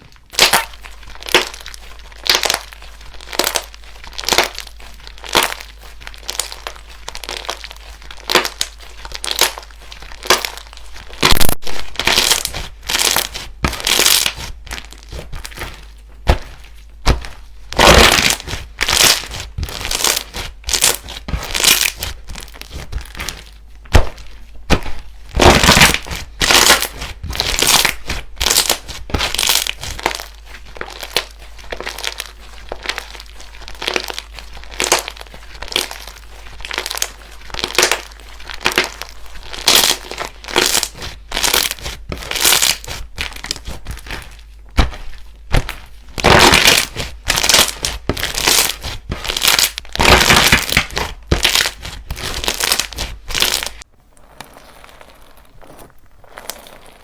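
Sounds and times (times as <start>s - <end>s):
slime squishing and crackling: 0.0s - 57.0s.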